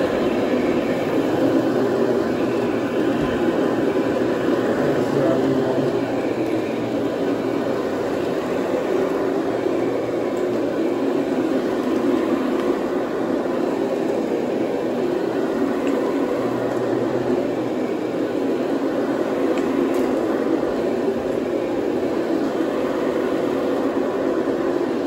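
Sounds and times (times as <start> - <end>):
carpet cleaning machine running: 0.0 - 25.0.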